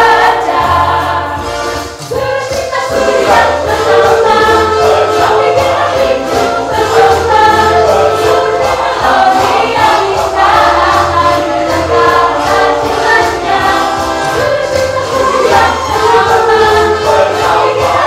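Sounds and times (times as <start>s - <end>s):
mixed choir singing: 0.0s - 18.0s.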